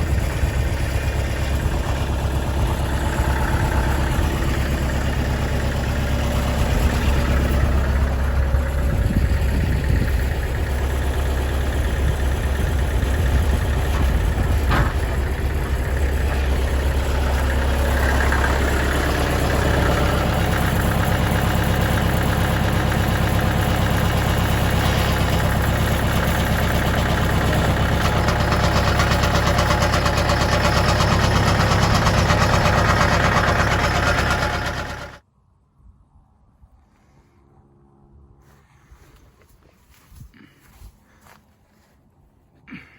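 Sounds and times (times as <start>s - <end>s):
engine running steadily: 0.0s - 35.2s.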